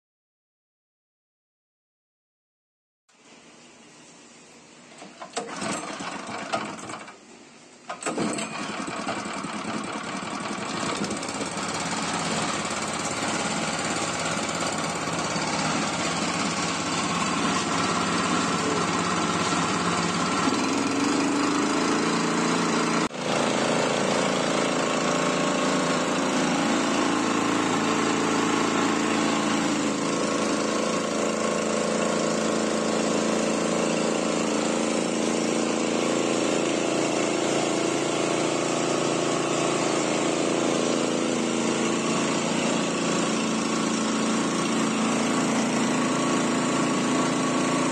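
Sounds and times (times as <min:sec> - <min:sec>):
spray pump running: 0:04.9 - 0:07.2, 0:07.9 - 0:47.9
small petrol engine starting: 0:05.0 - 0:07.2, 0:07.9 - 0:47.9.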